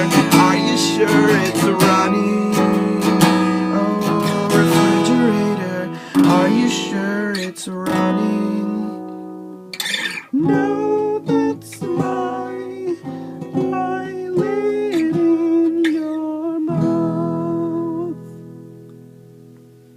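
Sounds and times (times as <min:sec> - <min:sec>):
acoustic guitar strummed chords: 0:00.0 - 0:19.9
wordless melody line: 0:00.0 - 0:19.9.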